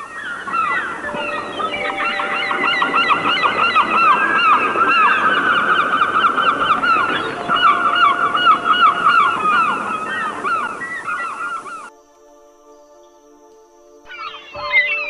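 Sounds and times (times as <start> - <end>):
birds chirping: 0.0 - 11.9, 13.8 - 15.0
long whistled bird note: 0.0 - 11.9, 14.0 - 15.0.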